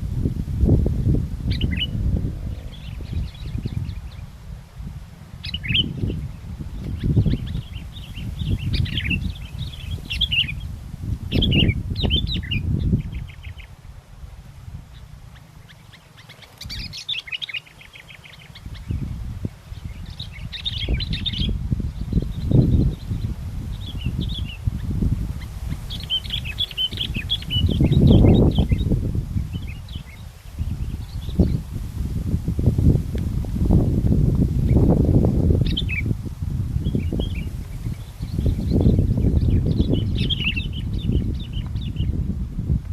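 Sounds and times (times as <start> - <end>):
wind buffeting microphone: 0.0 - 42.9
birds chirping and trilling: 1.4 - 4.4, 5.4 - 13.9, 14.8 - 31.8, 34.6 - 42.2.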